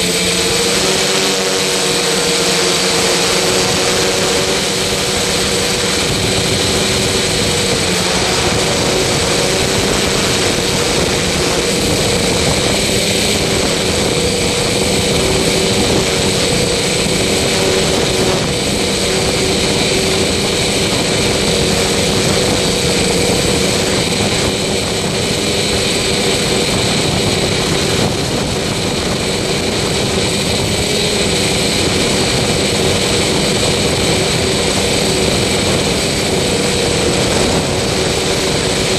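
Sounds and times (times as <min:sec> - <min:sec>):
machine droning: 0:00.0 - 0:38.9.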